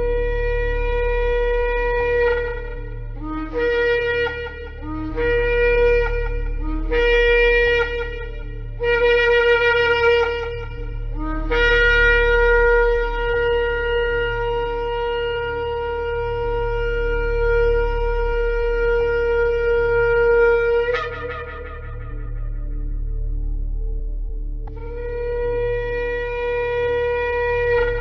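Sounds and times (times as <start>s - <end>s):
ram's horn blast: 0.0s - 23.5s
steady low hum: 0.0s - 28.0s.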